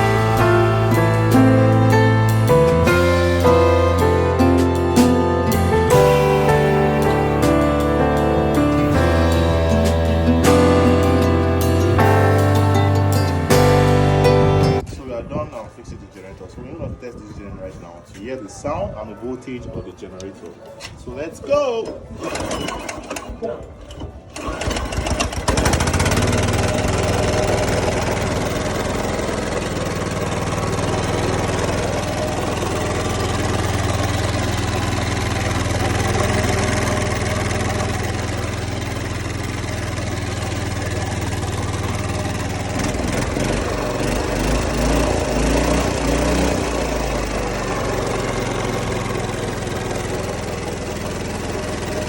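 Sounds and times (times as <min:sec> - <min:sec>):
petrol generator engine running: 0:00.0 - 0:14.9, 0:24.0 - 0:52.0.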